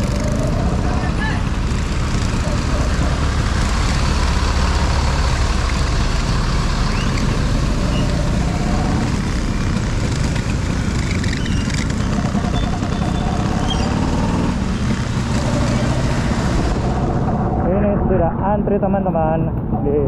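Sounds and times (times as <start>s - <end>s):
engines rumbling in traffic: 0.0s - 20.0s
traffic noise: 0.0s - 20.0s.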